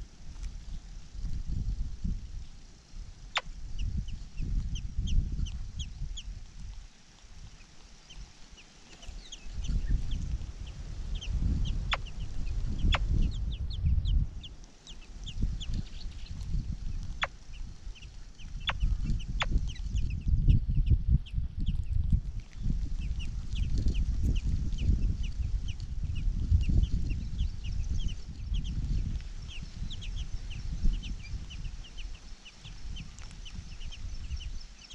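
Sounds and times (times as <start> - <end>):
nestlings chirping: 3.2 - 34.9.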